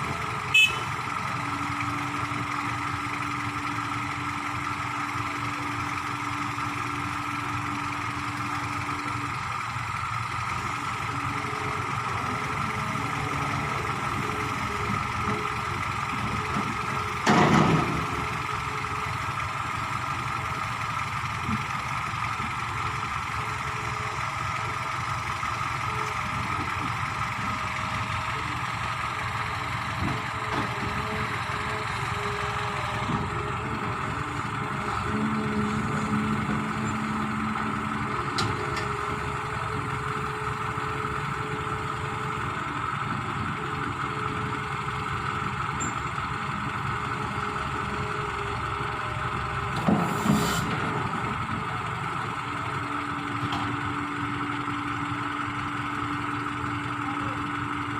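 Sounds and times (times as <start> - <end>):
heavy vehicle engine idling: 0.0 - 57.9.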